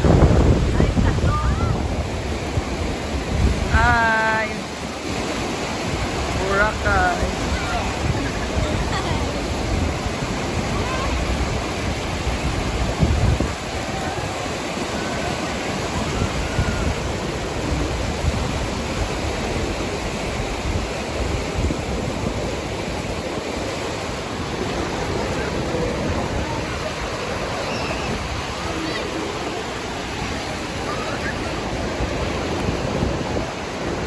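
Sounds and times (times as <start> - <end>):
surf breaking on beach: 0.0 - 34.0.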